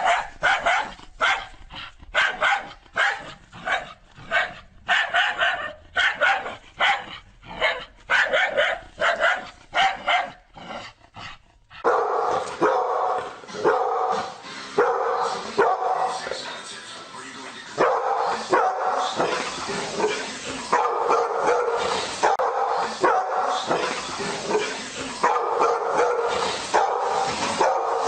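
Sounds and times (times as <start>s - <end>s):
dog barking: 0.0s - 10.5s, 11.8s - 16.4s, 17.8s - 28.0s.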